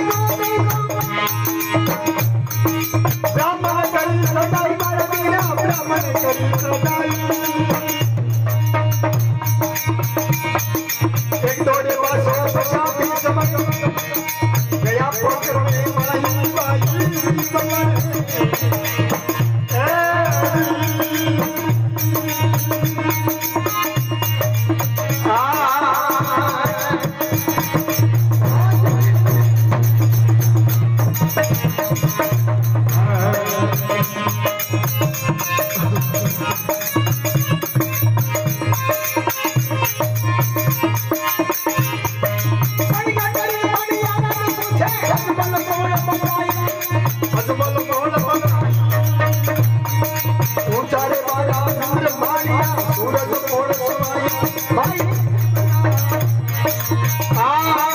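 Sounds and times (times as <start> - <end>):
man singing: 0.0 - 57.9
rattling percussion: 0.0 - 57.9.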